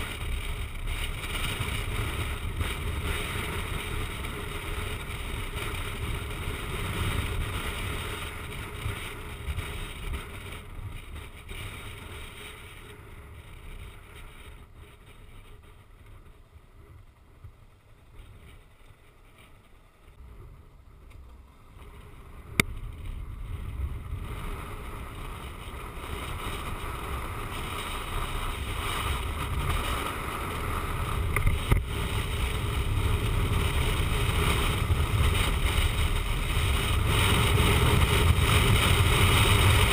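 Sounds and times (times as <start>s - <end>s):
road noise: 0.0s - 39.9s
wind rushing over camera: 0.0s - 39.9s.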